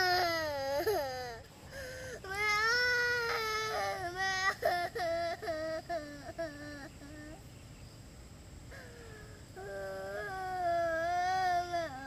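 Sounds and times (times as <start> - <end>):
girl crying: 0.0 - 7.4, 8.7 - 12.0.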